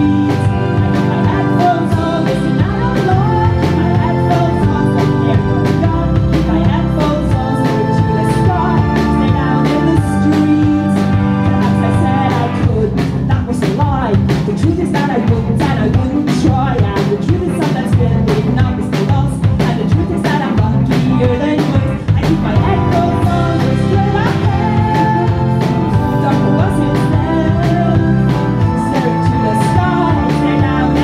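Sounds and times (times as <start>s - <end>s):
drum kit: 0.0s - 31.0s
electric bass: 0.0s - 31.0s
electric guitar: 0.0s - 31.0s
keyboard: 0.0s - 31.0s
person singing: 0.0s - 31.0s.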